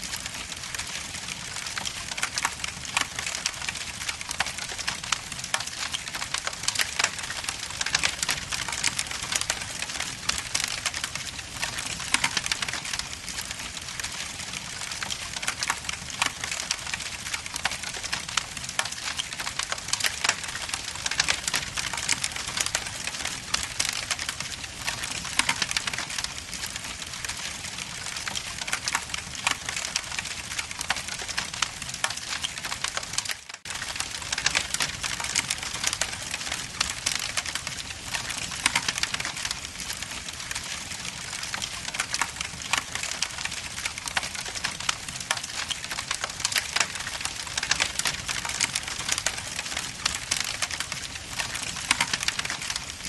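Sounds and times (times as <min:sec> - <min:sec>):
wood logs crackling in fireplace: 0:00.0 - 0:53.0.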